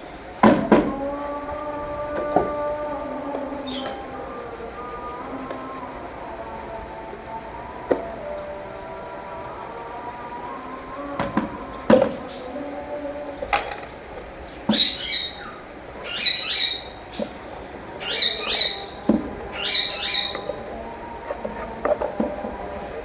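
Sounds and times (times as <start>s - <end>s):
caged birds chirping: 0.0s - 23.0s.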